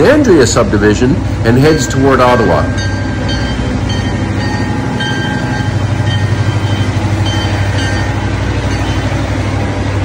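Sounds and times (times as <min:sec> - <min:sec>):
diesel locomotives passing: 0:00.0 - 0:10.0.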